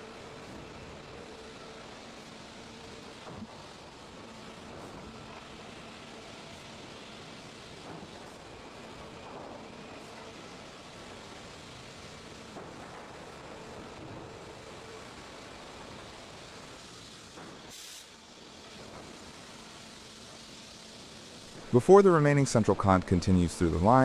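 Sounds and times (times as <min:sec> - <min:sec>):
sawmill saw and conveyor running: 0:00.0 - 0:24.0.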